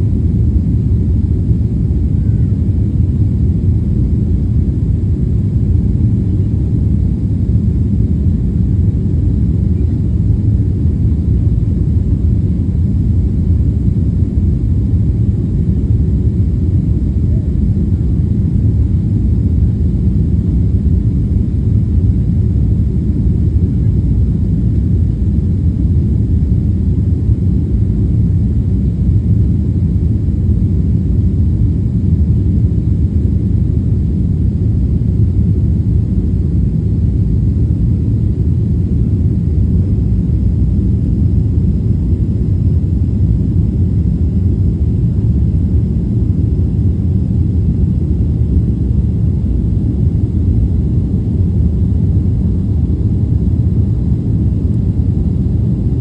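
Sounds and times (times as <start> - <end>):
jet airliner cabin rumble: 0.0 - 56.0.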